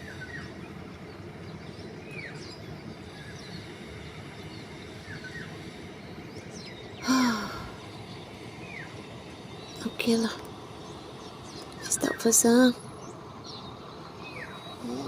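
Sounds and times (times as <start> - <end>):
faint bird chirps: 0.0 - 15.0
outdoor background noise: 0.0 - 15.0.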